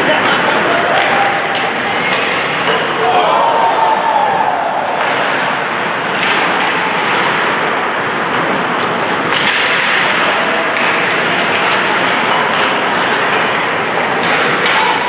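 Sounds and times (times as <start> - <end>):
skates on ice: 0.0 - 15.0.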